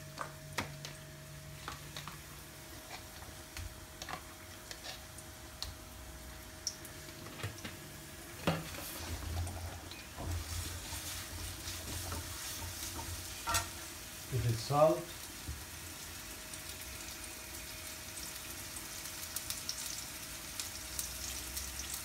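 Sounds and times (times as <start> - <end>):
onions sizzling in oil: 2.5 - 22.0.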